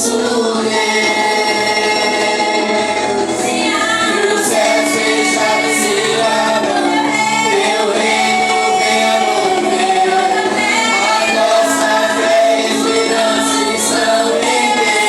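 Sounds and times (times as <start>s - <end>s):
group singing worship song: 0.0s - 15.0s
musical accompaniment: 0.0s - 15.0s.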